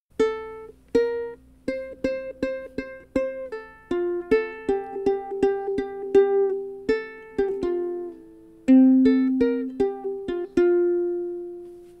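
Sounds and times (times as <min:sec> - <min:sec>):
ukulele melody: 0:00.1 - 0:12.0.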